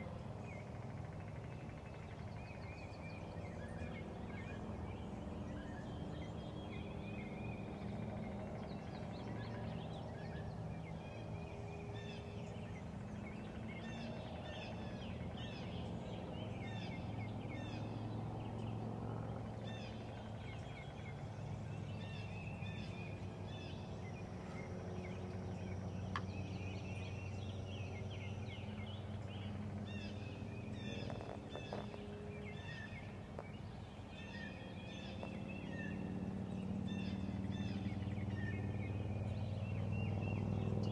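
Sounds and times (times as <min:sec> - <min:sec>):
low background hum: 0:00.0 - 0:40.9
songbirds chirping: 0:00.0 - 0:40.9.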